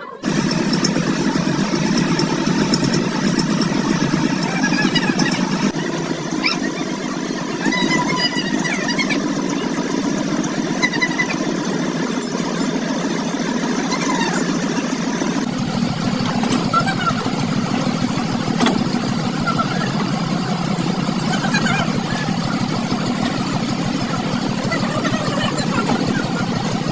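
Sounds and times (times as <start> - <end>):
truck engine running: 0.2 - 26.9.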